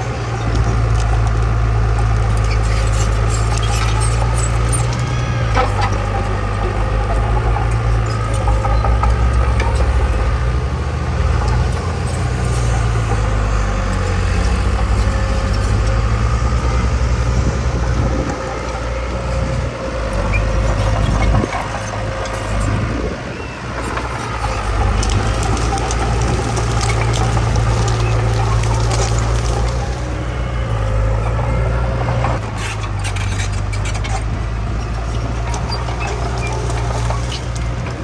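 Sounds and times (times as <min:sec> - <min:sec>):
diesel machinery engine running: 0:00.0 - 0:38.0
rattling: 0:00.0 - 0:38.0.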